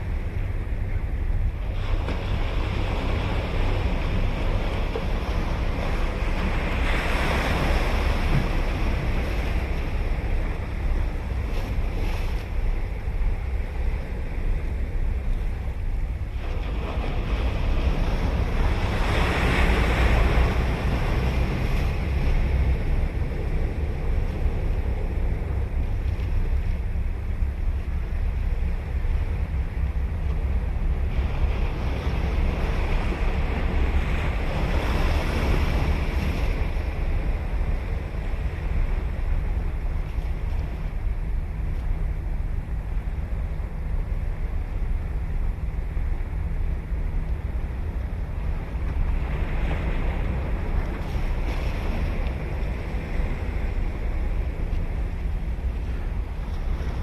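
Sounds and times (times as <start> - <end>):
ocean waves breaking: 0.0 - 57.0
wind on microphone: 0.0 - 57.0.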